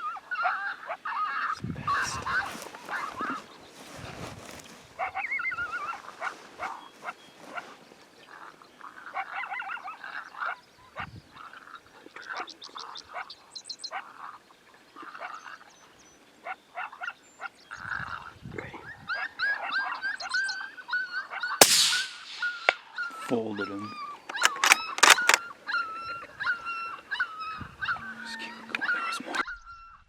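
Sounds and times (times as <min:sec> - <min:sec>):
coyotes yipping and barking: 0:00.0 - 0:03.9, 0:04.9 - 0:30.0.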